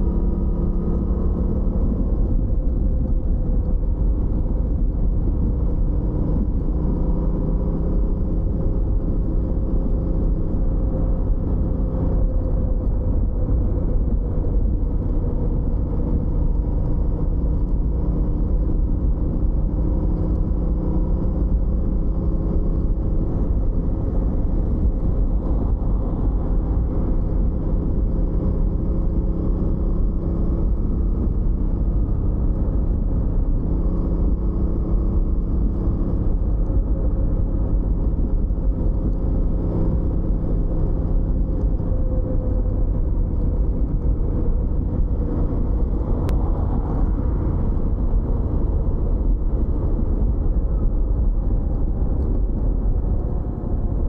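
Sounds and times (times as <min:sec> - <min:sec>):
low wind rush: 0:00.0 - 0:54.0
motorcycle engine running: 0:00.0 - 0:54.0.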